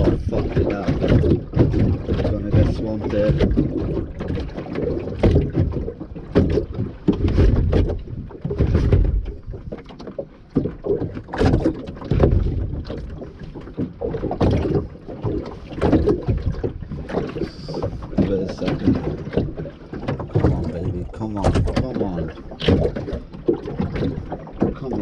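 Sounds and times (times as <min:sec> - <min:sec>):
sea slapping against boat hull: 0:00.0 - 0:25.0
sharp knocks on hull: 0:00.0 - 0:25.0.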